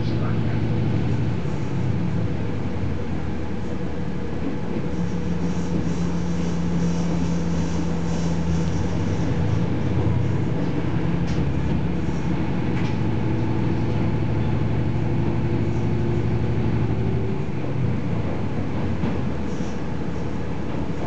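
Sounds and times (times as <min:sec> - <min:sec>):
diesel engine drone: 0:00.0 - 0:21.0
train wheels rumbling on track: 0:00.0 - 0:21.0.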